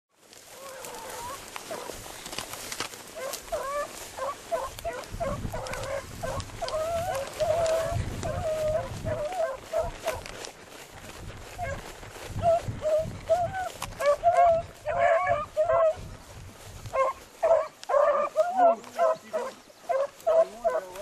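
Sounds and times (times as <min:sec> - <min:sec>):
footsteps through tall grass: 0:00.1 - 0:21.0
hounds baying: 0:00.4 - 0:02.3, 0:03.0 - 0:21.0.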